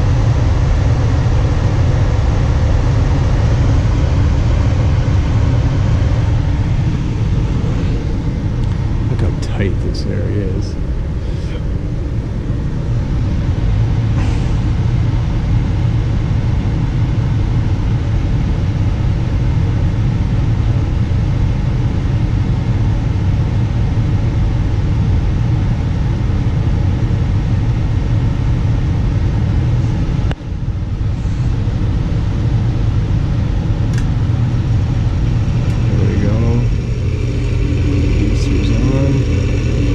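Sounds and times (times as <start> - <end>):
machine rumbling: 0.0 - 39.9.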